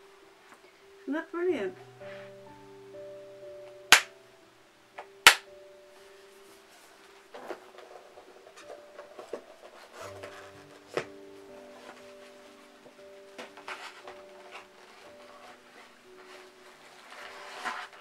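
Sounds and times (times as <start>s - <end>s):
quiet background music: 0.0s - 18.0s.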